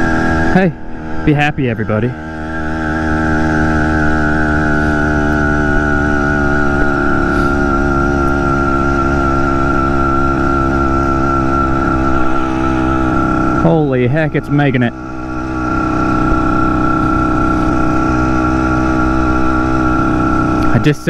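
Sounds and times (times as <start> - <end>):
motorized bicycle engine running: 2.2 - 13.9, 14.5 - 21.0.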